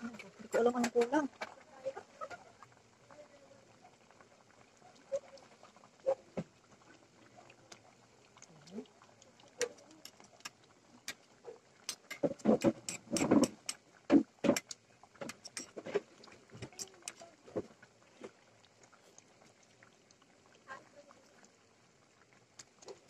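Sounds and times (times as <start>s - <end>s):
thick sauce bubbling and popping: 0.0s - 23.0s.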